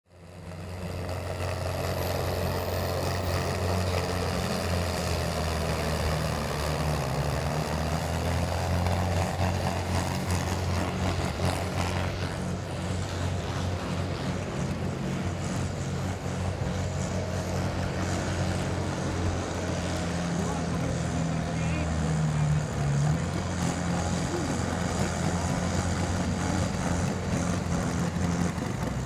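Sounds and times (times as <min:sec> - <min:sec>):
tractor diesel engine under load: 0:00.1 - 0:29.0.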